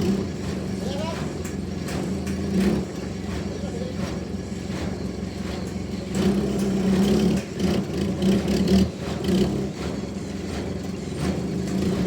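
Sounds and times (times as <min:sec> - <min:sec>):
machine engine running: 0:00.0 - 0:12.0.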